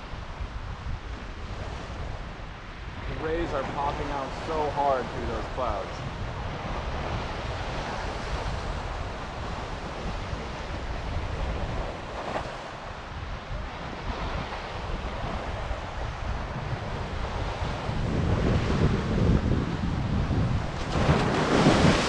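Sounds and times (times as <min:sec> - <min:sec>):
waves breaking on the shore: 0:00.0 - 0:22.0
wind buffeting the microphone: 0:00.0 - 0:22.0.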